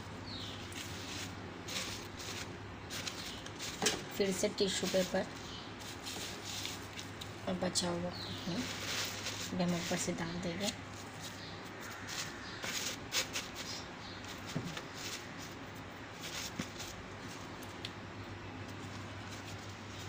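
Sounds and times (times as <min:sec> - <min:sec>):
steady low hum: 0:00.0 - 0:20.0
leaves and paper rustling: 0:00.4 - 0:17.9, 0:18.6 - 0:20.0.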